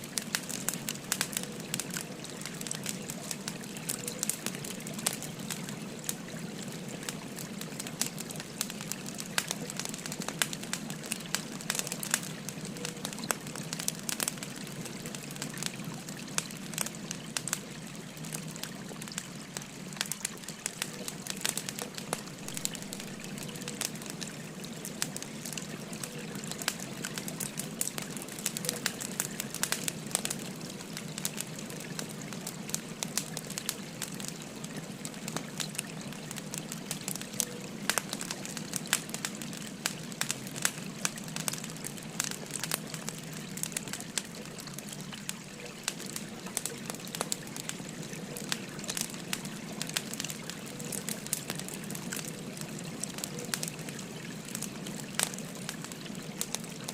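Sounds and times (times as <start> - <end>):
firewood crackling and popping: 0.0 - 56.9.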